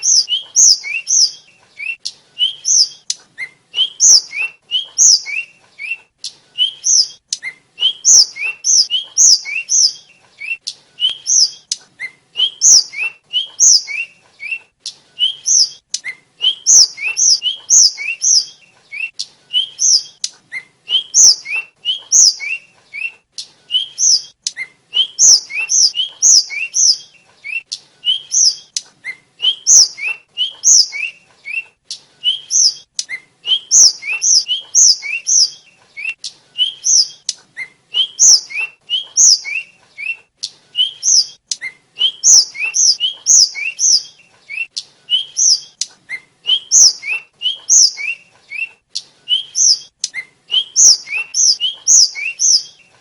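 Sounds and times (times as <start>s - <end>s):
bird whistling song: 0.0s - 52.9s.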